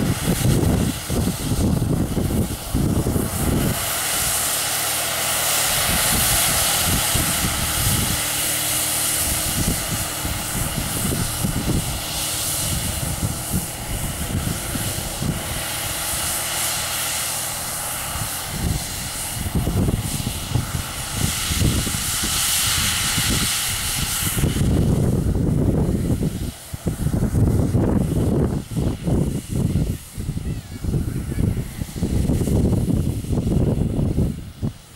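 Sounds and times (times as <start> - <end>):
low buffeting: 0.0 - 34.9
sprayer fan rushing air: 0.0 - 34.9
tractor engine: 0.0 - 34.9.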